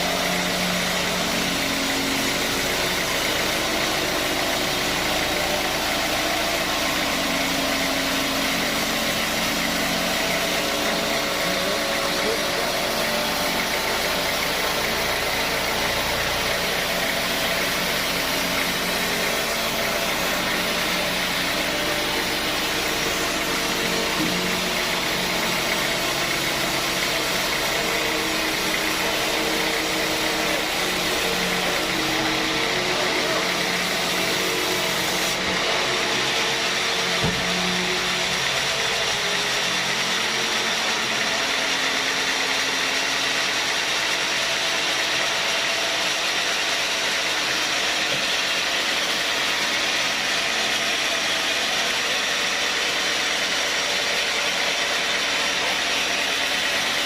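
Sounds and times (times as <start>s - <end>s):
sawmill saw running: 0.0s - 57.0s.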